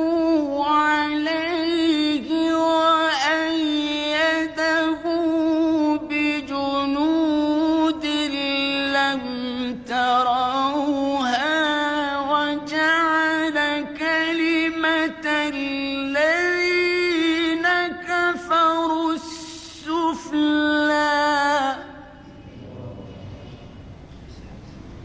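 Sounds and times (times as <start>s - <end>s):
man chanting melodically: 0.0s - 23.9s.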